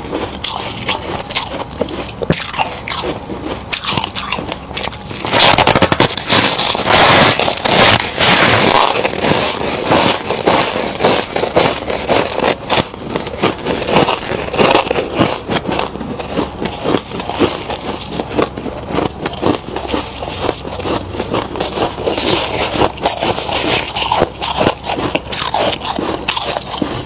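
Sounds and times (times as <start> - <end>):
frost crunching as chewed: 0.0 - 27.0.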